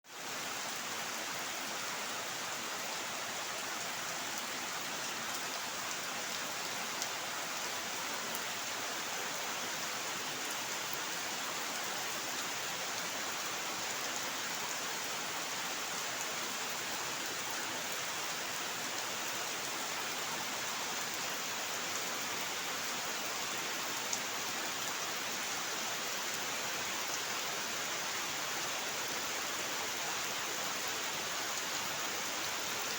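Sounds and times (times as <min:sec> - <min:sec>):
rain falling: 0:00.1 - 0:32.9.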